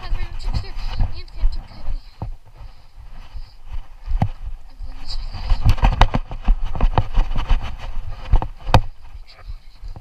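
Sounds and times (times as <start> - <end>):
hurried footsteps on leaves: 0.0 - 9.3
camera knocking and rubbing: 0.0 - 10.0.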